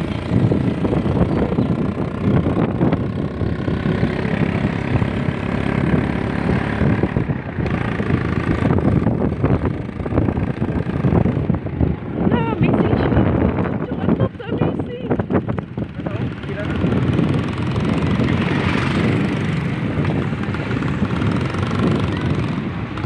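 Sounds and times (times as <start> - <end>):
small motorcycle engine running: 0.0 - 11.6, 12.3 - 23.0
wind buffeting microphone: 0.0 - 23.0.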